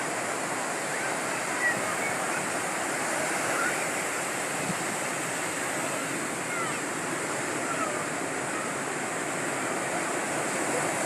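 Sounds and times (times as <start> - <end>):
sea surf waves breaking: 0.0 - 11.0.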